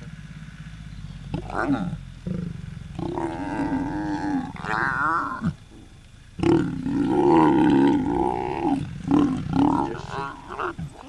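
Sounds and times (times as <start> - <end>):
lions growling: 1.0 - 11.0.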